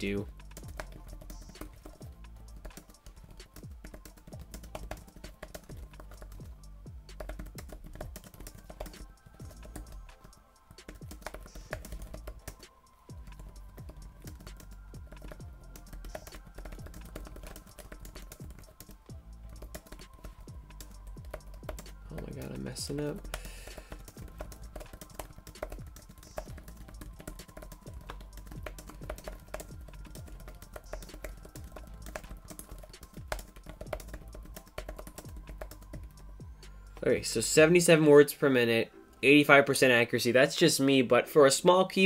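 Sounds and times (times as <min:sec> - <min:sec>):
background music: 0:00.0 - 0:42.0
fast typing on plastic keys: 0:00.5 - 0:06.6, 0:07.2 - 0:10.0, 0:10.8 - 0:12.6, 0:13.2 - 0:36.2.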